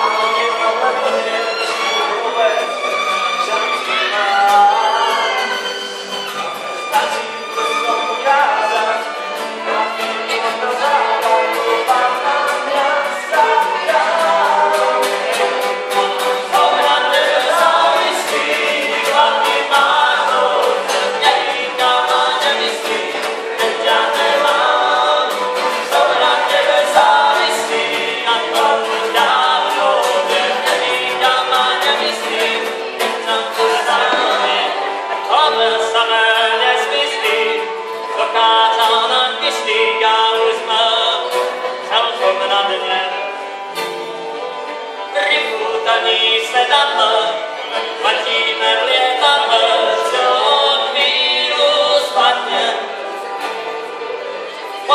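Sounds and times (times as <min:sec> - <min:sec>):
men singing together: 0:00.0 - 0:44.0, 0:45.1 - 0:53.1
folk band playing: 0:00.0 - 0:54.9.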